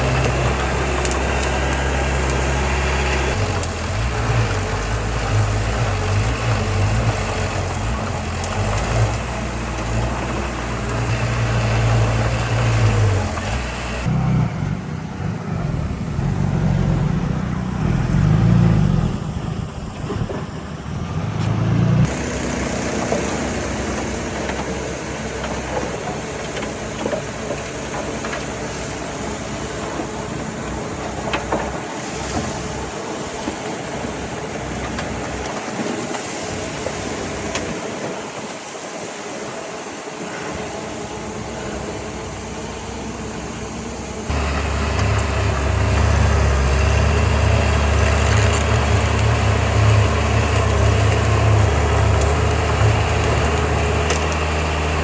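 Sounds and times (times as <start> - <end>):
heavy machinery diesel engines running: 0.0 - 55.0.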